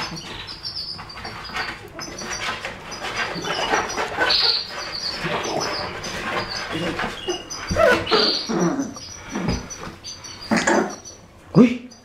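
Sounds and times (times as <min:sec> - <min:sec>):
puppies squeaking and whimpering: 0:00.0 - 0:11.3.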